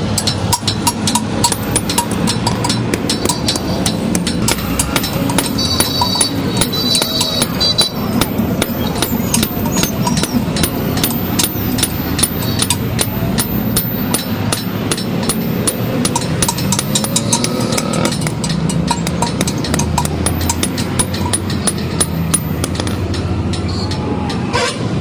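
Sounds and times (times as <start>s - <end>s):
steady low rumble: 0.0s - 23.7s
hammer striking metal on anvil: 0.0s - 24.4s.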